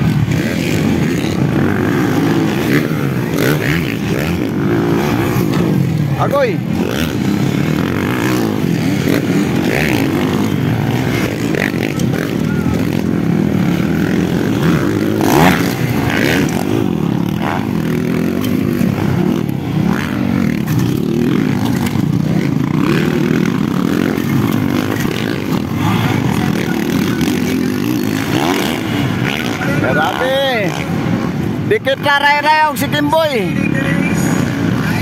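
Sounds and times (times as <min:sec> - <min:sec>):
dirt bike engines revving: 0:00.0 - 0:35.0.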